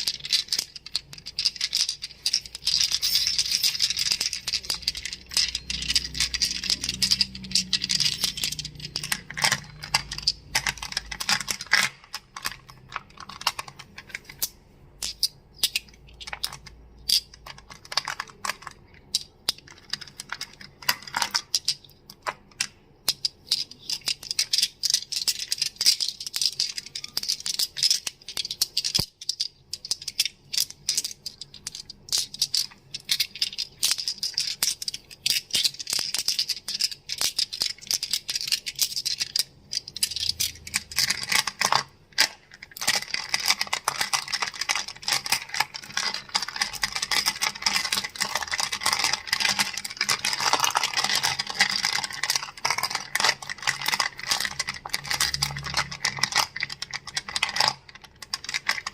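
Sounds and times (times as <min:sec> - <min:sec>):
crystals clicking together: 0:00.0 - 0:58.9.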